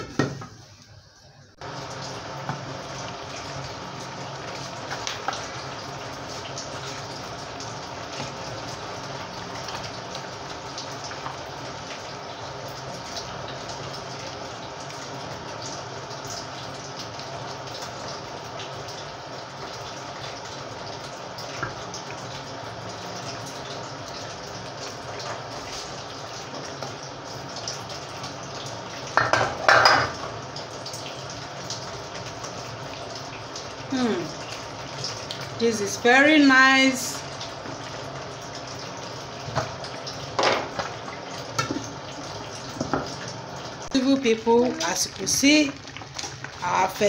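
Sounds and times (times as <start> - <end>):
soup bubbling: 1.5 - 47.0.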